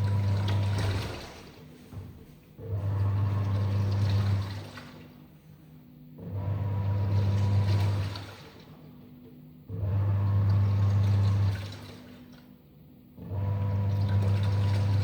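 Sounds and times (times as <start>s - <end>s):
washing machine agitating: 0.0s - 5.5s, 6.2s - 8.9s, 9.8s - 12.4s, 13.3s - 15.0s.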